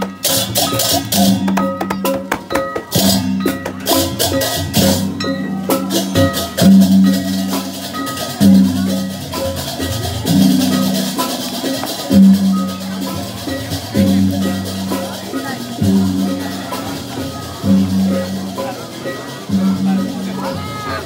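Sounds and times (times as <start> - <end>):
barrel drums: 0.0 - 21.0
clashing hand cymbals: 0.0 - 21.0.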